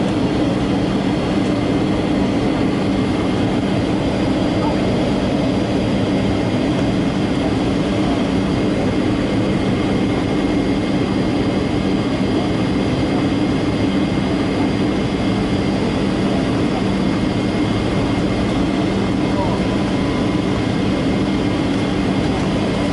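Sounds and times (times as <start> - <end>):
jet engine and airflow rush: 0.0 - 22.9.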